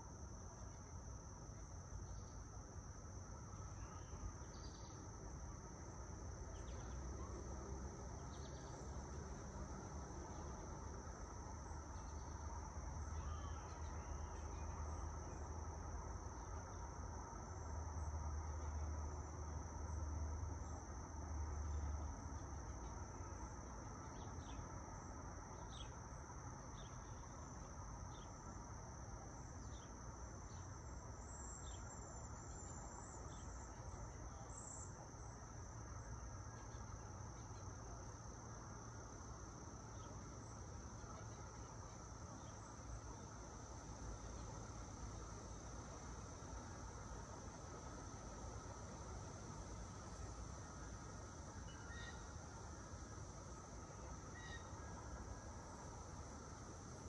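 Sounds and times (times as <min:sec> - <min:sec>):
cicadas and crickets droning: 0:00.0 - 0:57.0.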